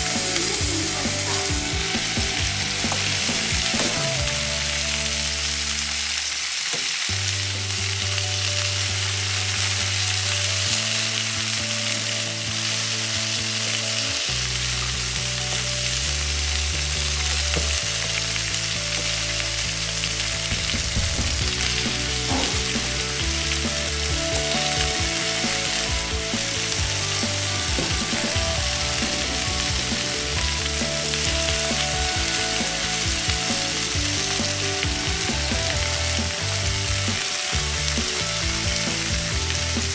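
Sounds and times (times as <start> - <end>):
steaks sizzling on grill pan: 0.0 - 39.9.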